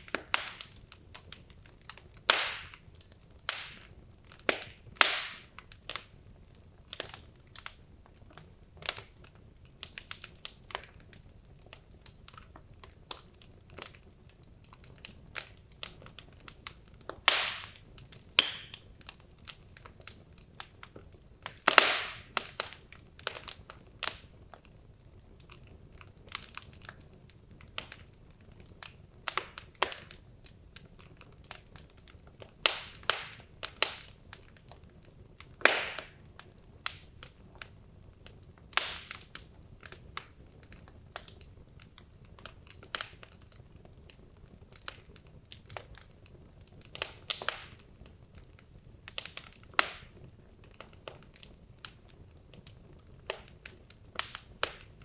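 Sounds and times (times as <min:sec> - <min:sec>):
faint hiss of fire: 0:00.0 - 0:55.0
wood fire crackling and popping: 0:00.0 - 0:55.0.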